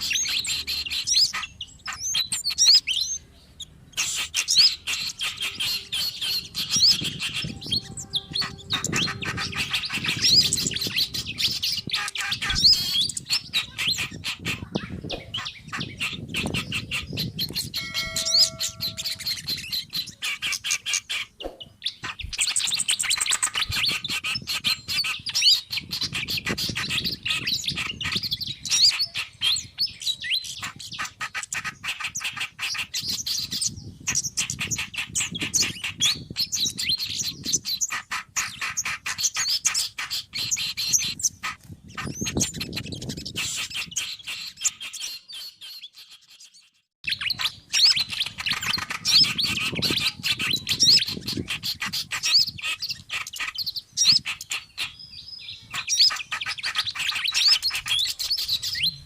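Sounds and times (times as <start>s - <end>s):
held even-pitched bird call: 0.0s - 59.0s
songbirds chirping and tweeting: 0.0s - 59.0s.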